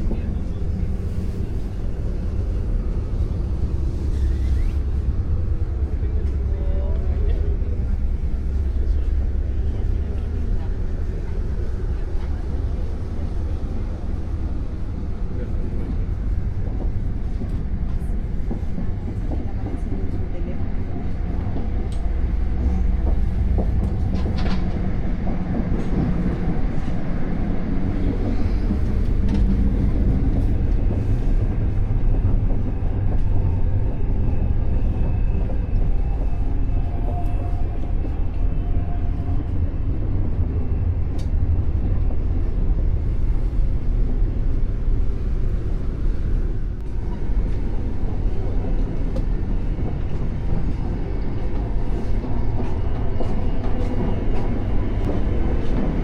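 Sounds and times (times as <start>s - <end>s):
train rumbling from inside carriage: 0.0s - 56.0s.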